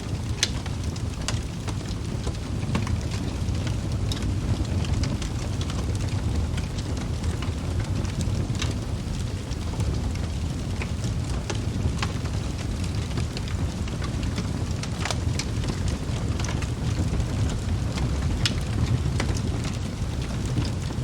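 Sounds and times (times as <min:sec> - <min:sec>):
logs crackling and popping: 0:00.0 - 0:21.0
wood fire burning: 0:00.0 - 0:21.0.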